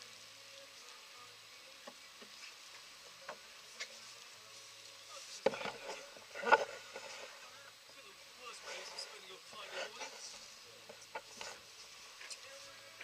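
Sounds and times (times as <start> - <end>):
wind and sea hiss: 0.0 - 13.0.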